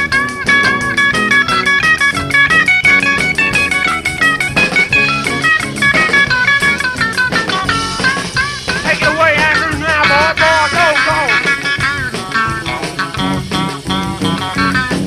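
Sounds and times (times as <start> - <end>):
rock band playing: 0.0 - 15.0
lead guitar single notes: 0.4 - 13.4.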